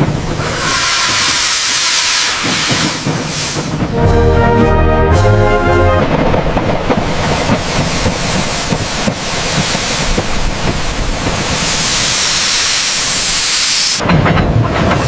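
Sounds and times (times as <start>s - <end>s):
loud rushing hiss: 0.0s - 4.0s, 5.8s - 14.0s
low rumble: 0.0s - 13.4s.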